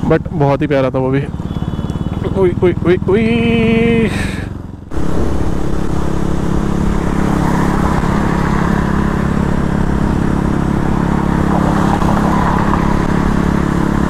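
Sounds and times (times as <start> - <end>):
motorcycle engine cruising: 0.0 - 14.0
wind and road noise: 0.0 - 14.0.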